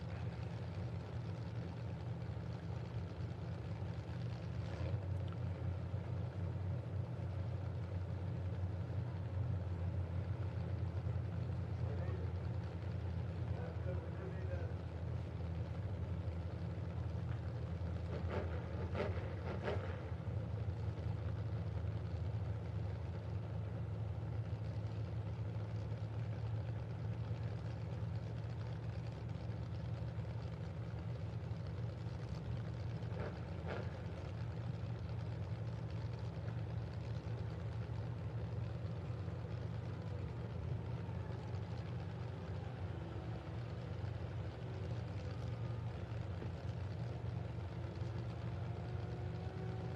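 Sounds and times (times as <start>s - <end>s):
truck engines idling: 0.0s - 49.9s.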